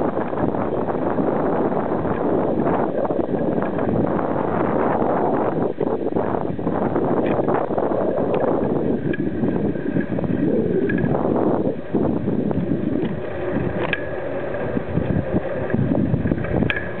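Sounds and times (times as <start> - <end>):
bike rattles and clicks: 0.0 - 17.0
tyre and road noise: 0.0 - 17.0
wind buffeting microphone: 0.0 - 17.0.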